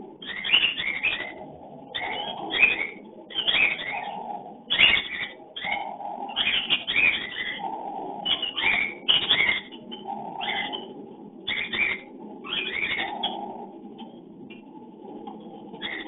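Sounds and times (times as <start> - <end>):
cockatiels chirping: 0.2 - 13.5, 15.8 - 16.0.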